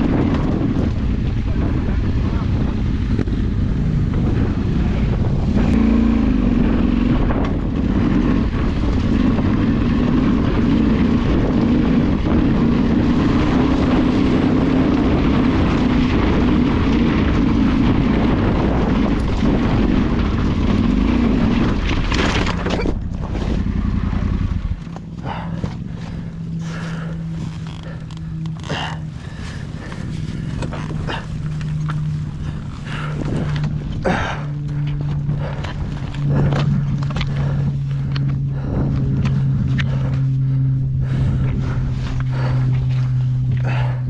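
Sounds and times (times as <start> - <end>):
motorcycle engine running: 0.0 - 44.0
wind on microphone: 0.0 - 44.0.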